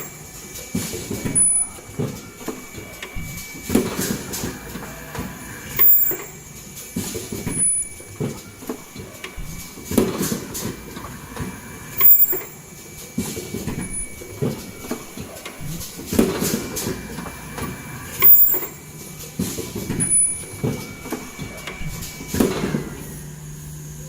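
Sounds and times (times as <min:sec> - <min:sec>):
sharp clack with hiss: 0:00.0 - 0:23.8
machine clattering strokes: 0:00.0 - 0:24.0.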